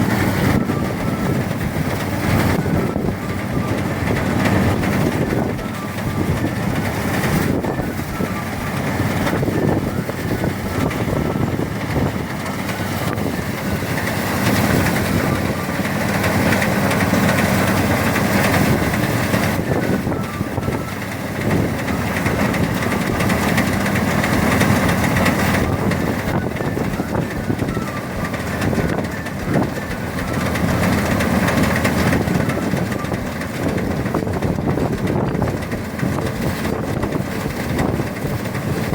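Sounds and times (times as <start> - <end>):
threshing machine droning: 0.0 - 38.9.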